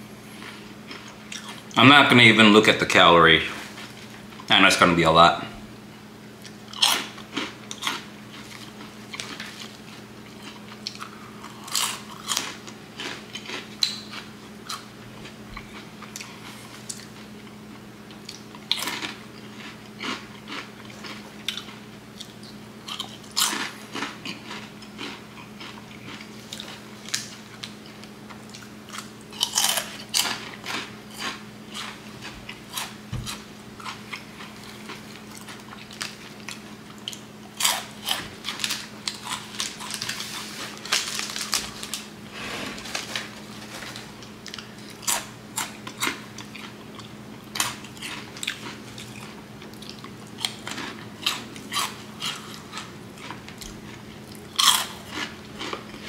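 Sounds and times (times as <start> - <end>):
chips being bitten and chewed: 6.4 - 17.5, 18.1 - 42.1, 42.9 - 56.0.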